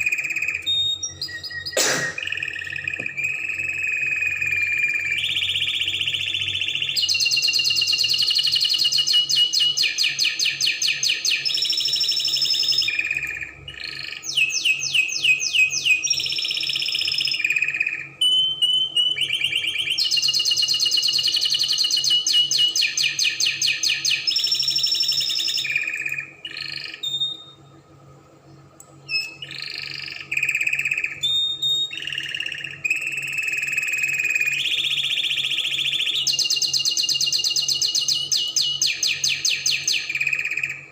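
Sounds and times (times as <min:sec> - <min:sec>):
canary singing trills: 0:00.0 - 0:27.7, 0:28.4 - 0:40.9.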